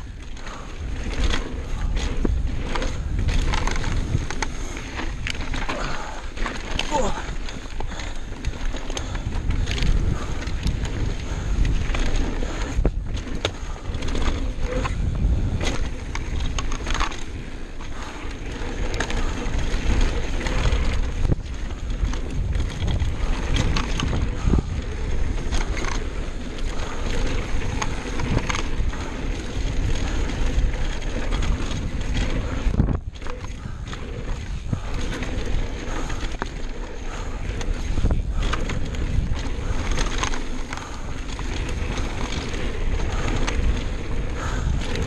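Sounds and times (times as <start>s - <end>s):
bike rattling over bumps: 0.0s - 45.0s
tyres rolling on gravel: 0.0s - 45.0s
wind buffeting microphone: 0.0s - 45.0s.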